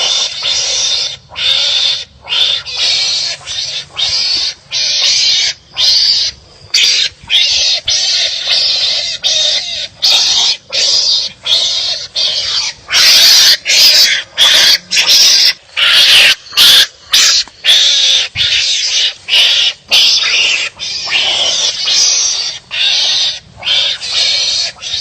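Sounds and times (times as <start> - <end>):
animals fighting with harsh calls: 0.0 - 25.0.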